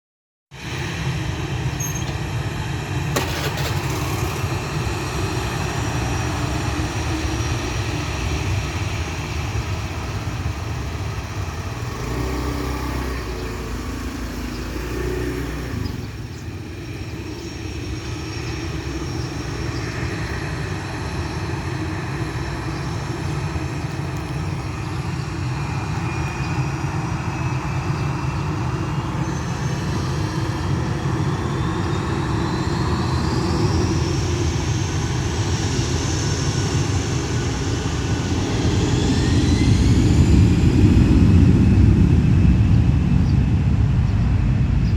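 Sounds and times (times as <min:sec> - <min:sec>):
jet engine whine: 0:00.5 - 0:44.9.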